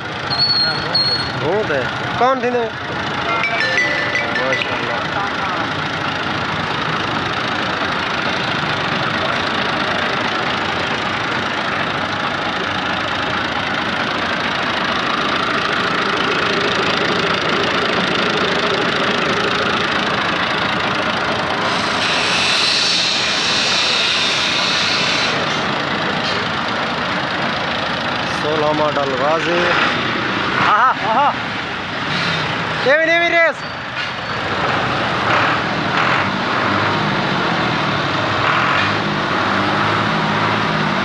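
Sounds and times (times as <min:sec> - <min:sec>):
tractor diesel engine idling: 0:00.0 - 0:34.3.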